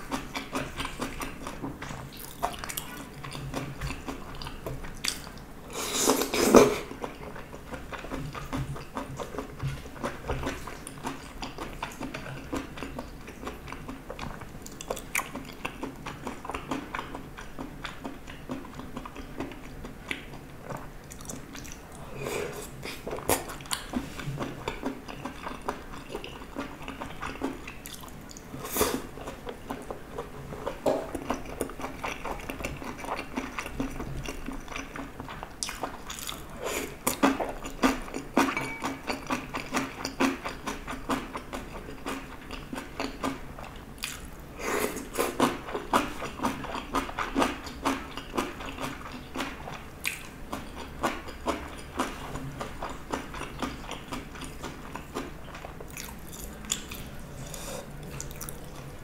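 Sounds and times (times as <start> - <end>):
wet chewing and mouth smacks: 6.9 - 22.0, 22.6 - 28.5, 29.2 - 44.4, 45.2 - 59.0.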